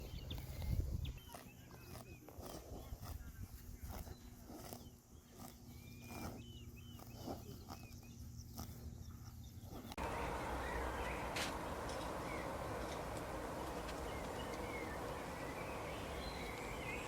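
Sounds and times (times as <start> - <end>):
hissing outdoor background: 0.0 - 17.0
small birds chirping: 0.0 - 17.0.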